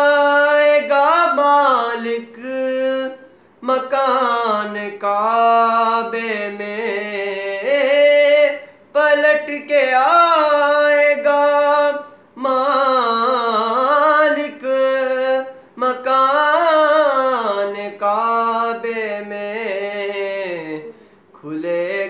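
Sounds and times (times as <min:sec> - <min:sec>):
young man singing unaccompanied: 0:00.0 - 0:22.0.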